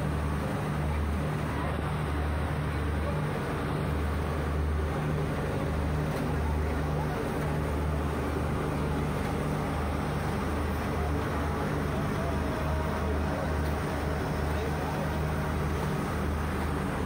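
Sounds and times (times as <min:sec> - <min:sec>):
train diesel engine drone: 0:00.0 - 0:17.0.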